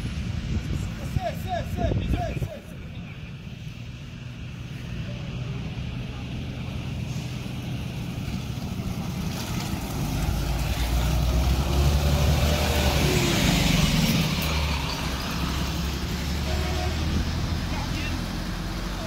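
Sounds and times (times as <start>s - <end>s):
diesel bus engine drone: 0.0s - 19.0s.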